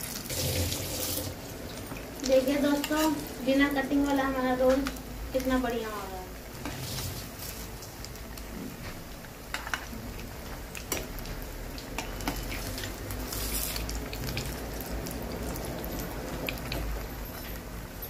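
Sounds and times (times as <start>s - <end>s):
food sizzling in hot oil: 0.0s - 8.3s, 9.4s - 17.6s.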